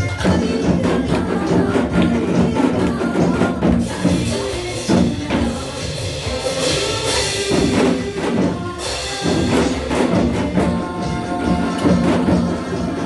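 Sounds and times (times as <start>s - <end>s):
hourglass drums struck in rhythm: 0.0s - 13.0s
trot song backing track: 0.0s - 13.0s.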